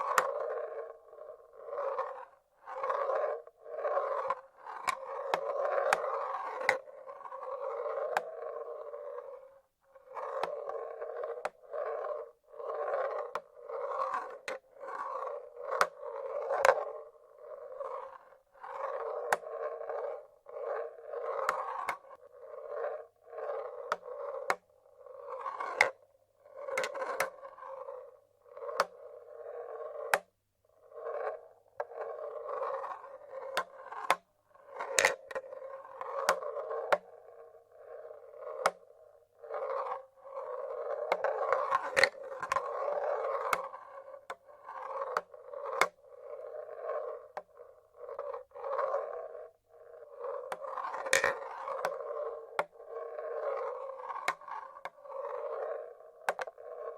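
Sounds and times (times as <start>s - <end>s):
marbles rolling on wooden track: 0.0s - 56.9s
marbles clacking on wood: 1.6s - 9.4s, 10.0s - 30.3s, 30.9s - 37.2s, 37.8s - 56.9s.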